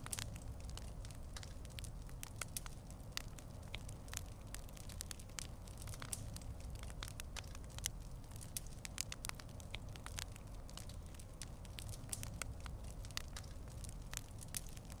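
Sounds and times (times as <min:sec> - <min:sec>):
campfire crackling: 0:00.0 - 0:15.0
light breeze rumble: 0:00.0 - 0:15.0.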